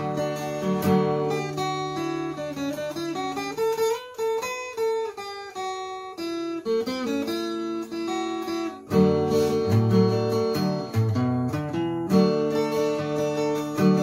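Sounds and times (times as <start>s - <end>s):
fingerstyle acoustic guitar: 0.0s - 14.0s.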